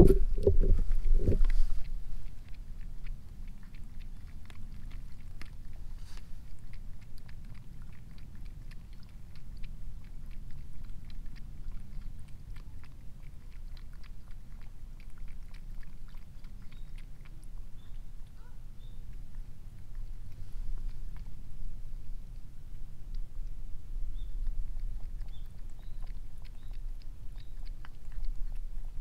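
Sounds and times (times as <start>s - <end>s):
cat lapping water: 0.0s - 29.0s
low steady rumble: 0.0s - 29.0s.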